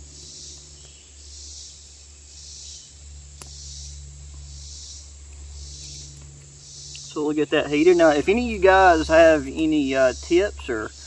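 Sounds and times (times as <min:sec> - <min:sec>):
low rumble: 0:00.0 - 0:02.3, 0:02.9 - 0:11.0
insects chirring: 0:00.0 - 0:11.0.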